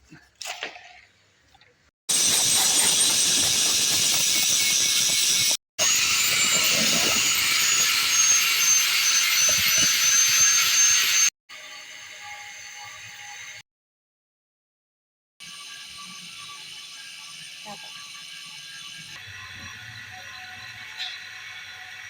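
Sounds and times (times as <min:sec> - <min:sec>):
high-pitched power tool whine: 0:02.1 - 0:13.6, 0:15.4 - 0:22.0.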